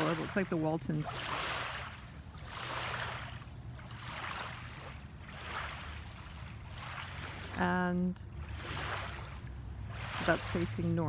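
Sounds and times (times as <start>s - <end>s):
small waves washing onto sand: 0.0s - 11.0s.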